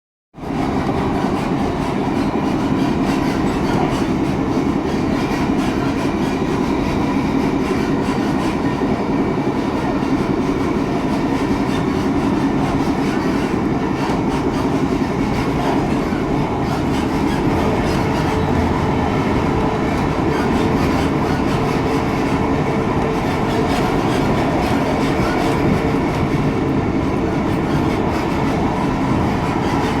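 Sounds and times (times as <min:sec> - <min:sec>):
train diesel engine: 0:00.4 - 0:30.0
wheels on rails: 0:00.4 - 0:30.0.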